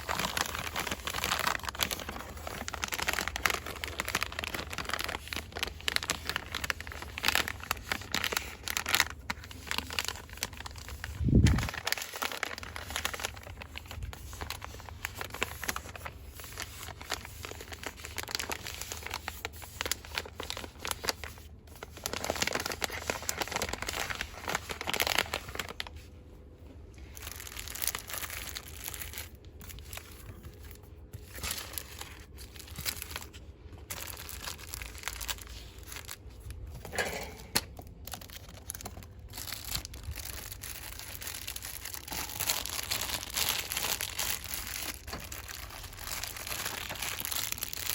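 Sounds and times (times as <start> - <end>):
packaging crinkling and rustling: 0.0 - 47.9.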